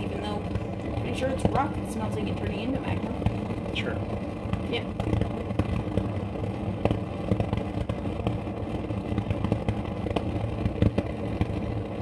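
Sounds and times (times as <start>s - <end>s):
gas burner rumbling: 0.0s - 12.0s
ticks and pops: 0.0s - 12.0s.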